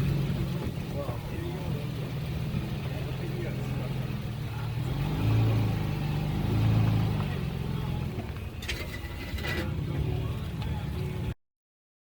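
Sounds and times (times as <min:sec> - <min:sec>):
off-road vehicle engine under load: 0:00.0 - 0:11.4.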